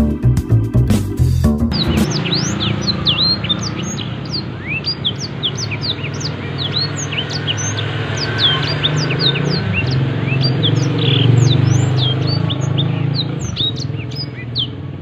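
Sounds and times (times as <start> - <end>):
canary singing: 1.7 - 14.9.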